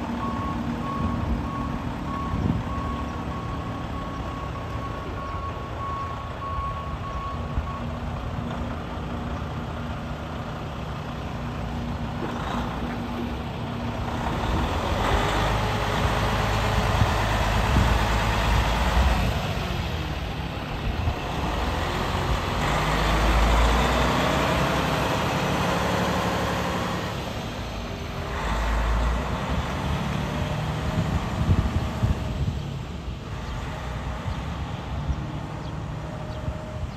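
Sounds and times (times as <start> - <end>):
truck diesel engine running: 0.0 - 36.9.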